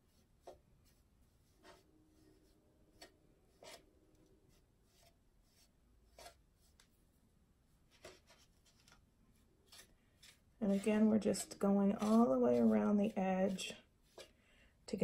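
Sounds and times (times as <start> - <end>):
soft brush strokes: 0.0 - 15.0.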